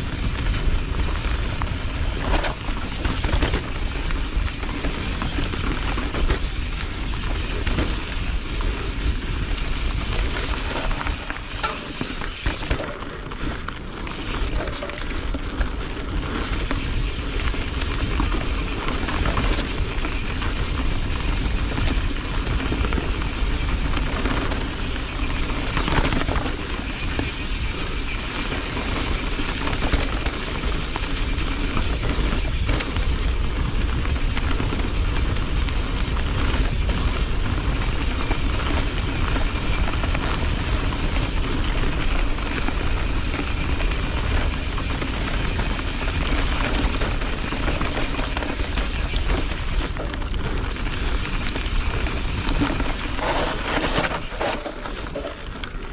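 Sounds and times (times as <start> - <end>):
bike rattling over bumps: 0.0 - 55.9
tyres rolling over dirt and leaves: 0.0 - 55.9
wind rush on microphone: 0.0 - 55.9.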